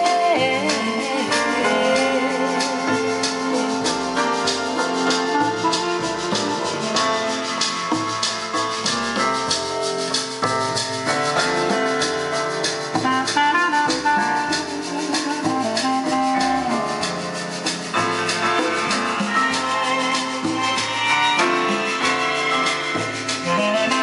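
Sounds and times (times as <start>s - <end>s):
music through speakers: 0.0s - 24.0s.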